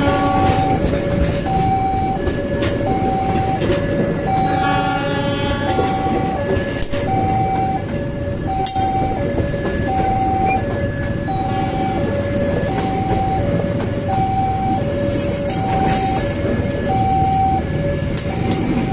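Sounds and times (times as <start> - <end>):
train rumbling past: 0.0 - 18.9
two-tone electronic warning signal: 0.0 - 18.9.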